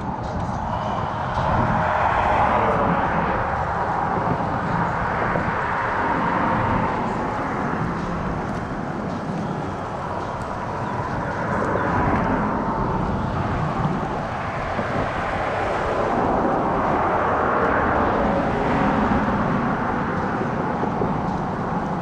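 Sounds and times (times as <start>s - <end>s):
vehicle driving past: 0.0s - 22.0s.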